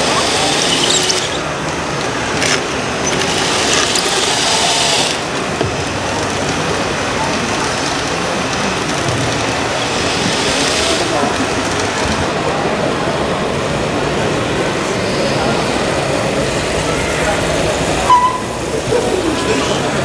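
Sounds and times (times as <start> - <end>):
electric motors whirring and rattling: 0.0 - 18.0.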